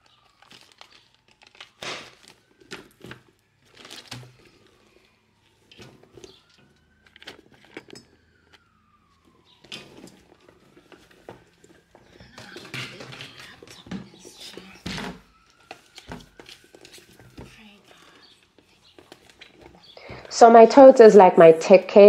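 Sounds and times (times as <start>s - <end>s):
bags being handled and packed: 0.0s - 20.9s
faint siren wailing: 0.0s - 22.0s.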